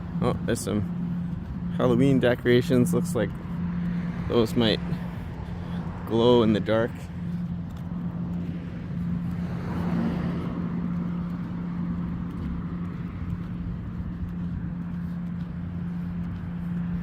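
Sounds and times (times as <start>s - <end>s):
car passing: 0.0s - 17.0s
traffic hum: 0.0s - 17.0s.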